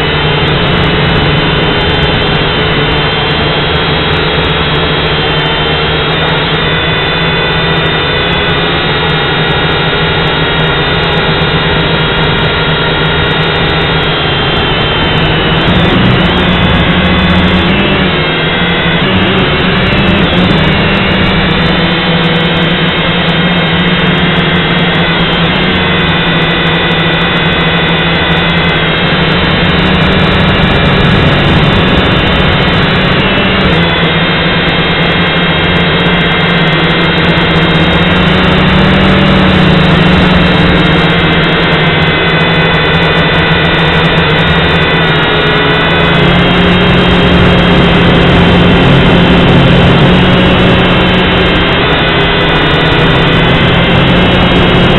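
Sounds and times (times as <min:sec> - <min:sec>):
quadcopter motors whining: 0:00.0 - 0:54.9.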